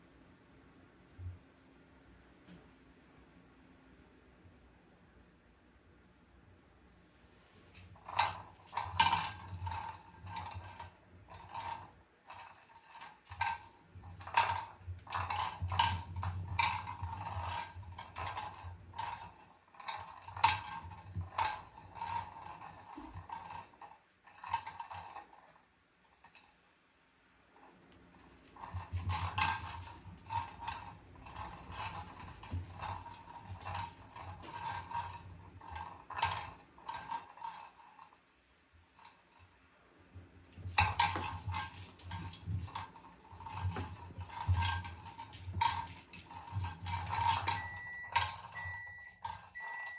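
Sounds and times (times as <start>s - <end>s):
small bell jingling: 7.8s - 39.9s, 40.5s - 49.9s.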